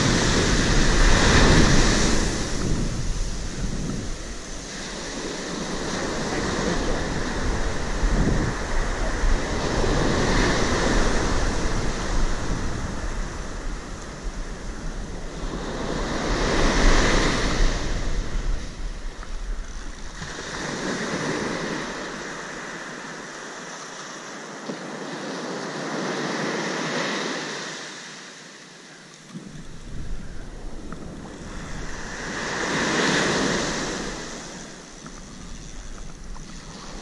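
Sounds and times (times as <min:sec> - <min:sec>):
wind rumbling on microphone: 0:00.0 - 0:23.3, 0:29.2 - 0:37.0
surf breaking on a beach: 0:00.0 - 0:37.0.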